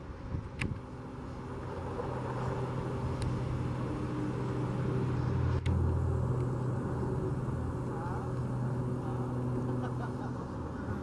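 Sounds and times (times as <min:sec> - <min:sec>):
car engine running at low revs: 0:00.2 - 0:11.0.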